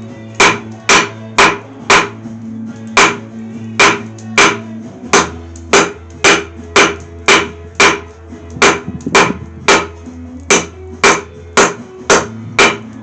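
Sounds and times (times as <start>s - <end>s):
hammer striking steel on anvil: 0.3s - 2.2s, 3.0s - 13.0s.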